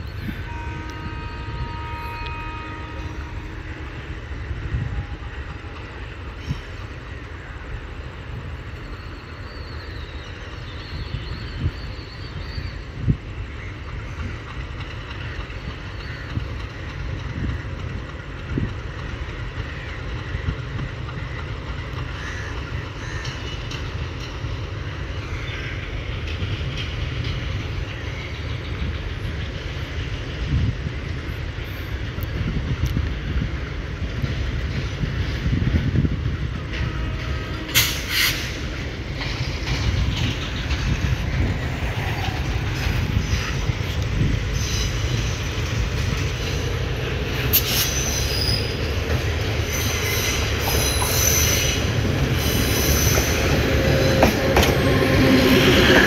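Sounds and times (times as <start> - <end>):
train engine rumble: 0.0 - 56.0
train wheels on rails: 0.0 - 56.0.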